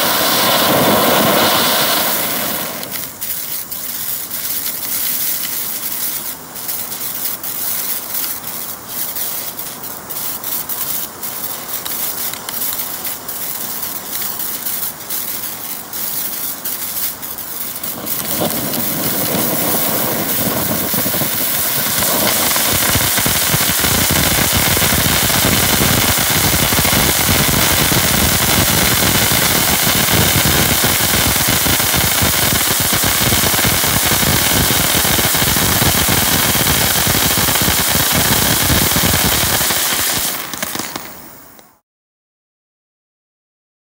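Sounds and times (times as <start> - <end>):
firework fountain crackling hiss: 0.0 - 41.8.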